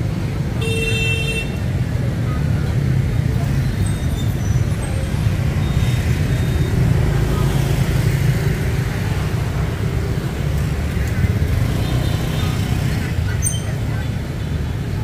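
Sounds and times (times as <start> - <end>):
motorbikes and vehicles passing: 0.0 - 15.0.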